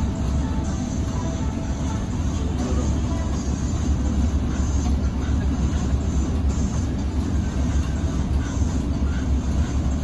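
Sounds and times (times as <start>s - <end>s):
bus engine rumbling: 0.0s - 10.0s.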